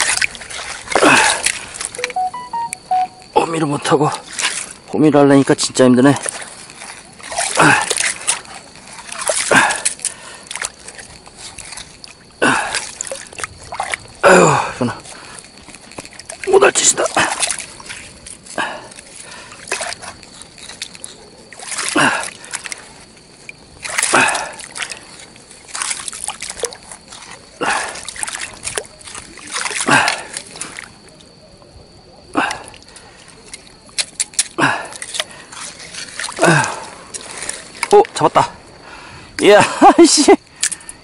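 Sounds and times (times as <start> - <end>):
seawater sloshing and splashing: 0.0 - 3.1, 3.8 - 31.3, 32.2 - 40.9.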